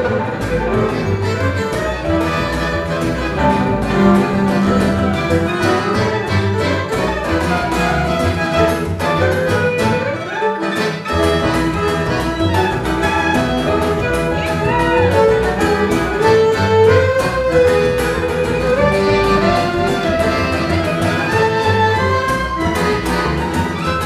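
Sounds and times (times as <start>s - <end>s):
accordion: 0.0s - 24.0s
strummed and plucked rhythm: 0.0s - 24.0s
violins playing fast melody: 0.0s - 24.0s.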